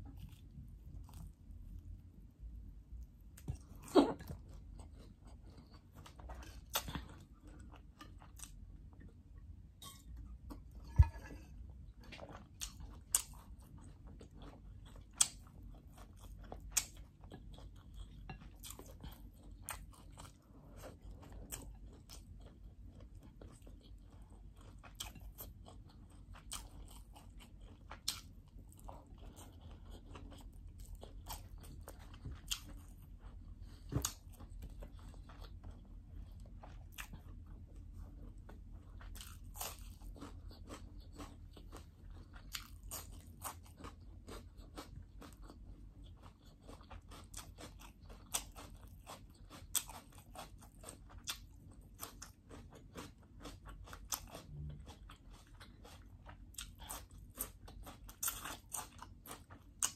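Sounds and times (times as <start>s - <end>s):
person chewing with mouth clicks: 3.4s - 9.2s, 12.0s - 59.9s.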